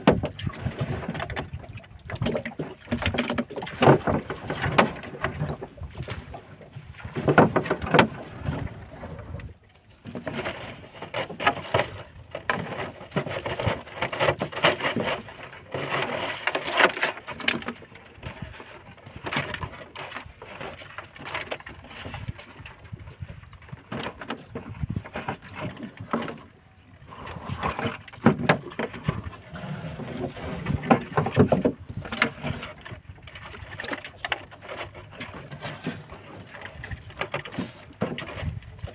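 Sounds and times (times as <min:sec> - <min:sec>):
crab traps rustling and clattering: 0:00.0 - 0:38.9.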